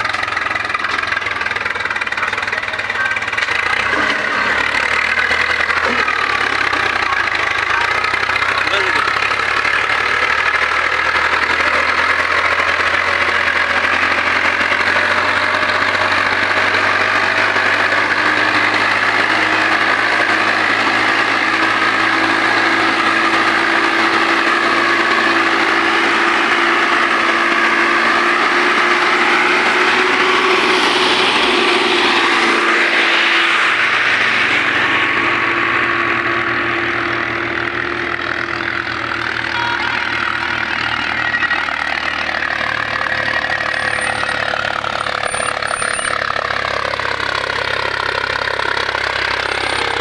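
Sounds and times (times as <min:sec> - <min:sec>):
diesel tractor engines under load: 0:00.0 - 0:50.0.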